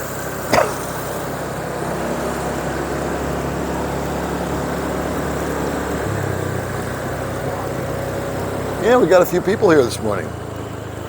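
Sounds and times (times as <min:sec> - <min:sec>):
motorbike engine running: 0:00.0 - 0:11.0
wind and road noise: 0:00.0 - 0:11.0.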